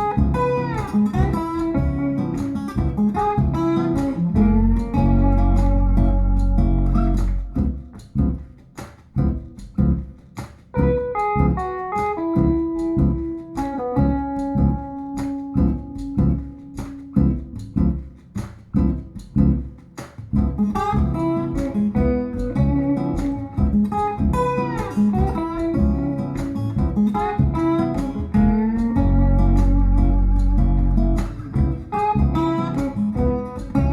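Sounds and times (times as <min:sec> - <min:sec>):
guitar music with bass and beat: 0:00.0 - 0:33.9.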